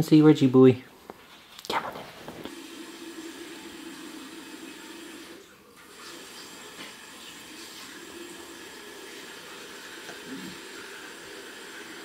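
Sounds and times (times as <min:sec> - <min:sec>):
room tone hiss and hum: 0:00.0 - 0:12.0.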